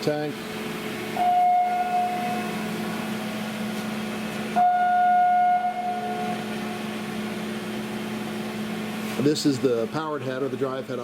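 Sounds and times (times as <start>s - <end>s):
grinder machine humming: 0.0s - 11.0s
high steady whine: 0.0s - 11.0s.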